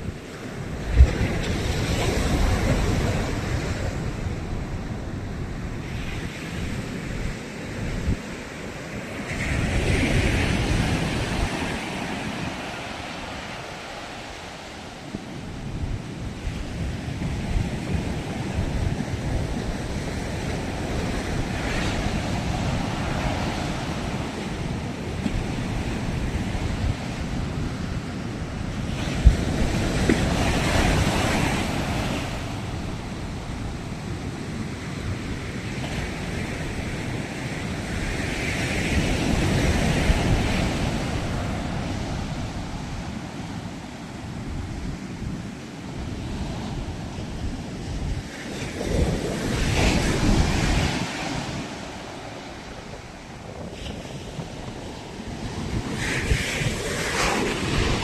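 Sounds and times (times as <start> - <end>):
sea waves breaking ashore: 0.0 - 58.0
wind rumbling on microphone: 0.0 - 58.0.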